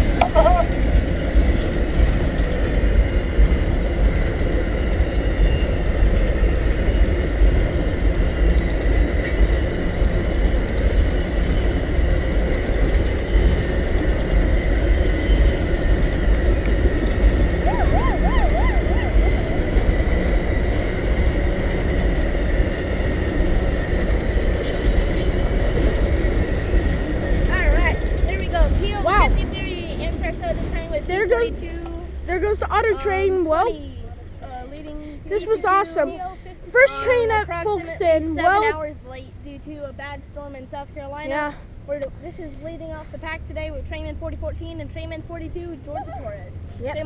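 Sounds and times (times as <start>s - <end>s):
steel wheels rumbling on rail: 0.0s - 47.0s.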